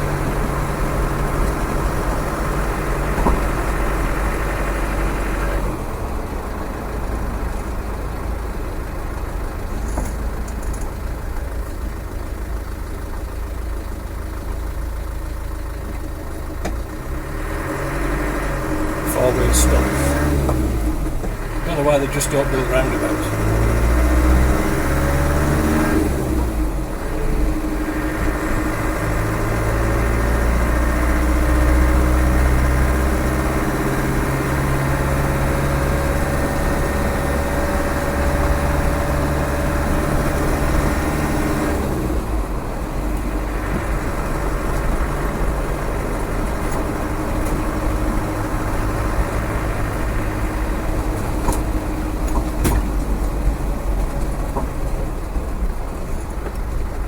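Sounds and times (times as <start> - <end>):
diesel engine drone from inside cab: 0.0 - 57.0.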